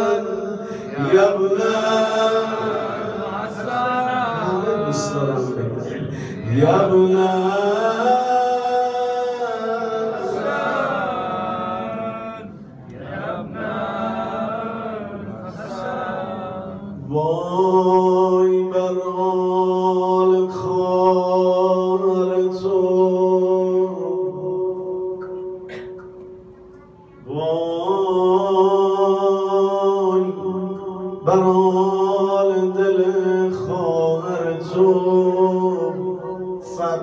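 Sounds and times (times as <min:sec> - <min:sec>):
man chanting into a microphone: 0:00.0 - 0:12.6, 0:16.4 - 0:25.6, 0:27.3 - 0:37.0.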